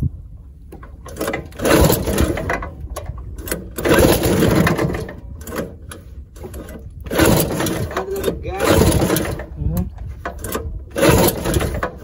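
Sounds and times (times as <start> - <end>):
boat engine running: 1.0 - 12.0.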